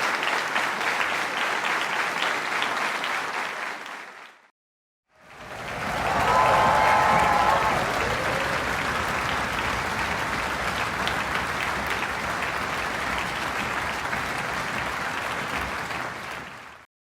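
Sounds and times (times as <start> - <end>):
crowd applause: 0.0 - 4.4, 5.2 - 16.9.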